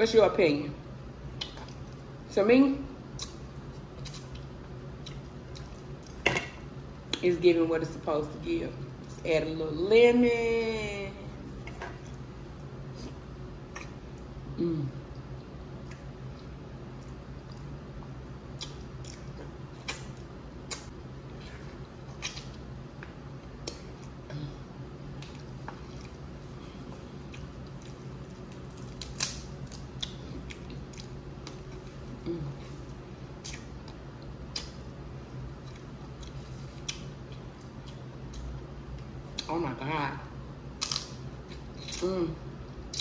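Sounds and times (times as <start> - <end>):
air conditioner hum: 0.0 - 43.0.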